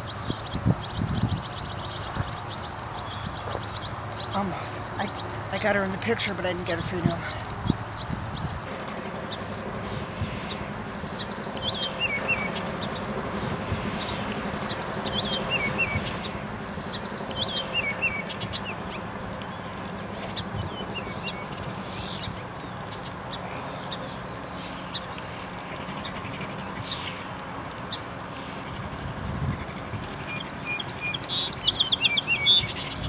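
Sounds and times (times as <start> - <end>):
swallows twittering: 0.0 - 33.0.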